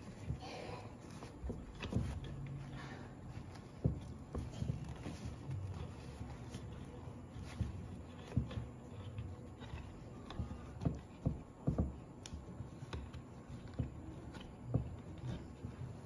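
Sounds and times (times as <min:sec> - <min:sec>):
fabric rubbing: 0:00.0 - 0:16.0.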